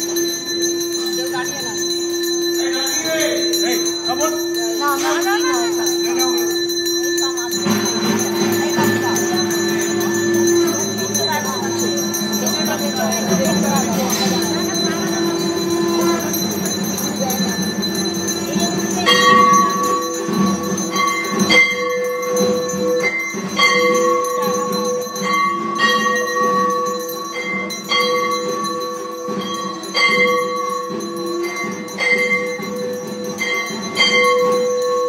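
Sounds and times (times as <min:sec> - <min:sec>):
bells ringing: 0:00.0 - 0:35.0
louder bell stroke: 0:00.0 - 0:35.0.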